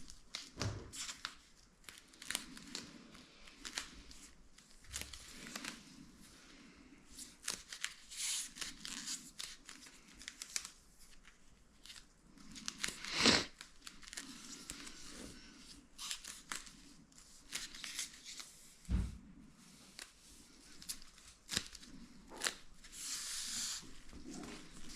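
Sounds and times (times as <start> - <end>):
material rustling and crinkling: 0.0 - 24.9.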